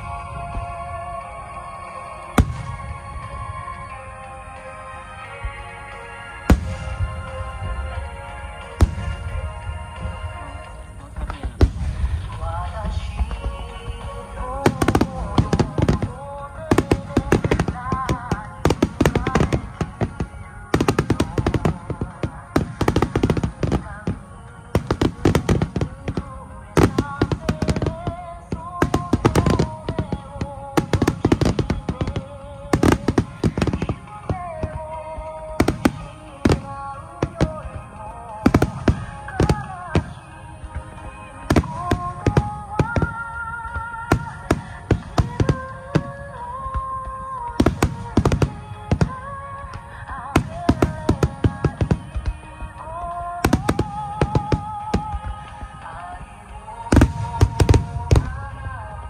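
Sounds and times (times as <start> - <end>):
firework bangs and crackles: 0.0 - 59.0
music: 0.0 - 59.0.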